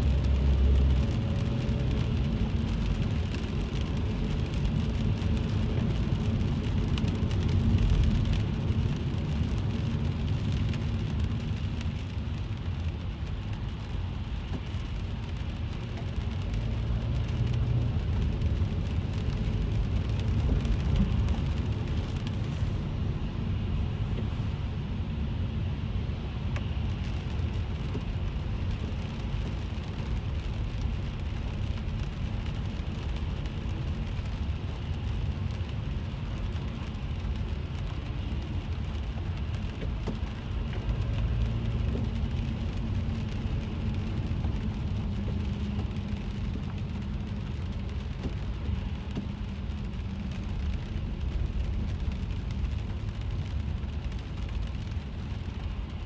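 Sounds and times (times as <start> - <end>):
car engine and tyres on wet road: 0.0 - 56.0
rain ticking on car roof: 0.0 - 56.0.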